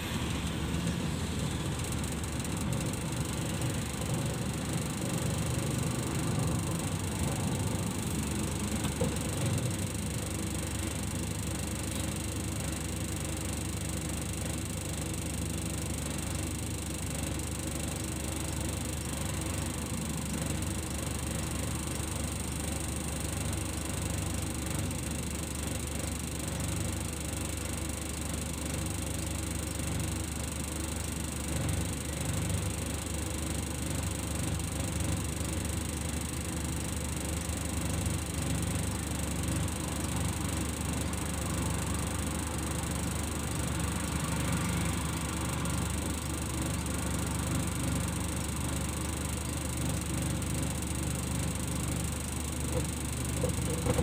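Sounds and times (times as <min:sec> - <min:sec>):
car engine hum inside cabin: 0:00.0 - 0:54.0.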